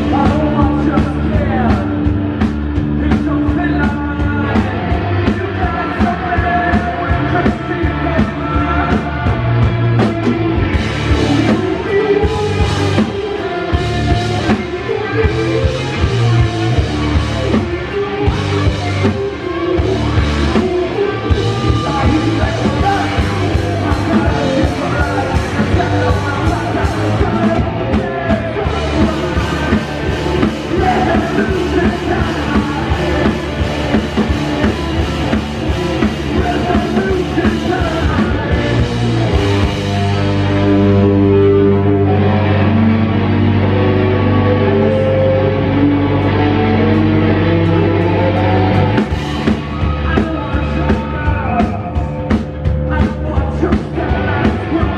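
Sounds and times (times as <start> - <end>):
person singing: 0.0 - 2.2, 2.9 - 54.9
drum kit: 0.0 - 44.8, 46.3 - 54.9
electric guitars: 0.0 - 54.9.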